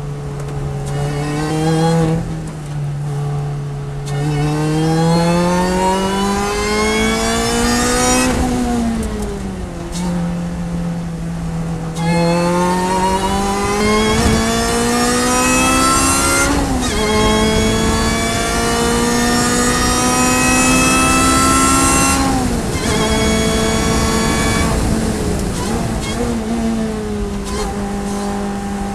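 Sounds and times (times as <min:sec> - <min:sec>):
racing car engine at full throttle: 0:00.0 - 0:28.9.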